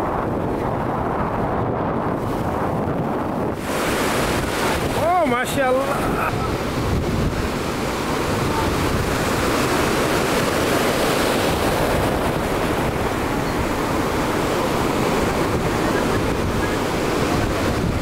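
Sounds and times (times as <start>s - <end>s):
water rushing past jet ski: 0.0s - 18.0s
wind buffeting microphone: 0.0s - 18.0s.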